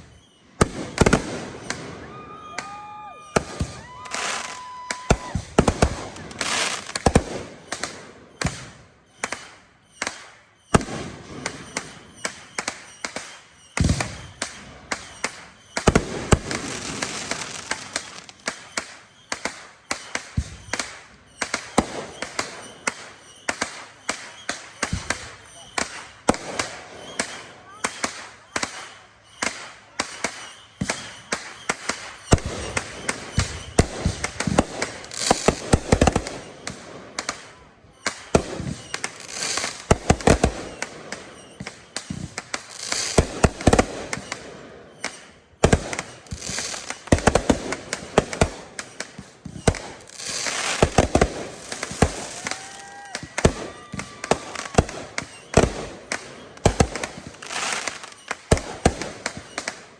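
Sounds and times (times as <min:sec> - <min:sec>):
firework whistles: 0:00.0 - 0:59.9
fireworks bangs and crackling: 0:00.0 - 0:59.9.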